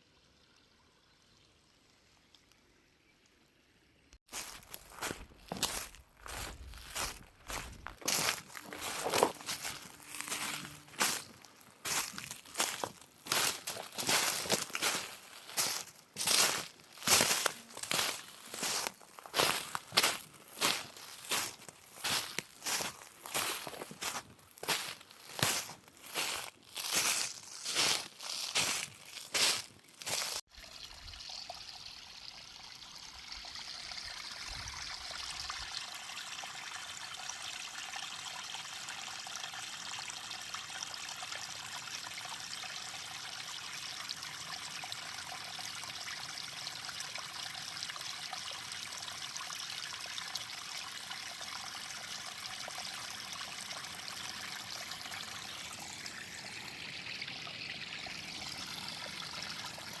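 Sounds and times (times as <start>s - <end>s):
water running and trickling: 4.2s - 60.0s.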